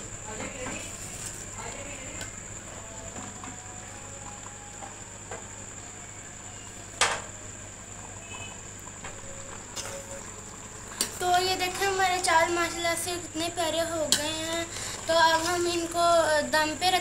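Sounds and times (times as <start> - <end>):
pot boiling hard: 0.0 - 17.0.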